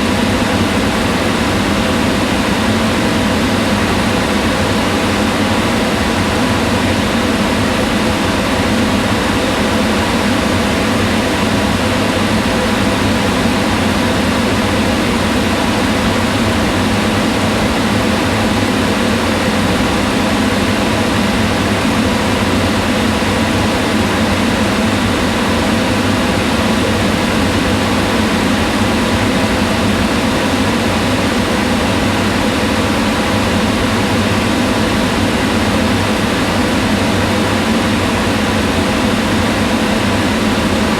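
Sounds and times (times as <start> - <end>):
range hood fan whirring: 0.0 - 40.9.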